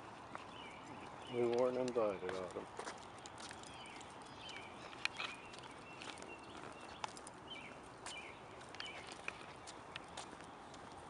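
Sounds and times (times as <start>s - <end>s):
birds chirping: 0.0s - 11.0s
footsteps on pavement: 0.0s - 11.0s.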